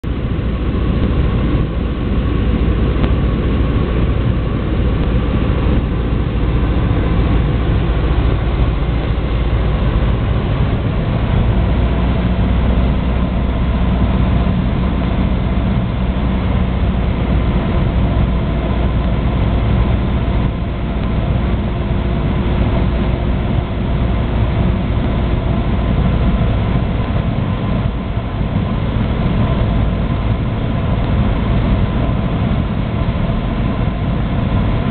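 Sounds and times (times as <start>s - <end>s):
aircraft engine drone in cabin: 0.0s - 34.9s.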